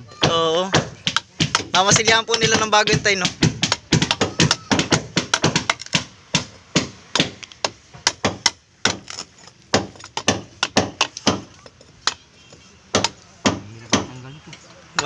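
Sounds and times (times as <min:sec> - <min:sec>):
hammer tapping chisel: 0:00.2 - 0:15.0.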